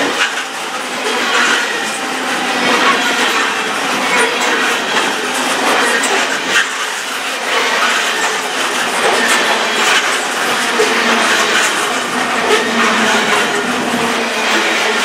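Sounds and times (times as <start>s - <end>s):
train wheels rattling on rails: 0.0s - 15.0s
wheel clacks: 0.0s - 15.0s.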